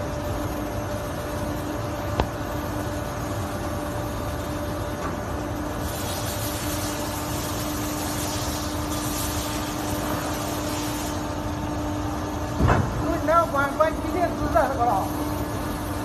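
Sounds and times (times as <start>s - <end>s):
moulding machine humming: 0.0s - 16.0s.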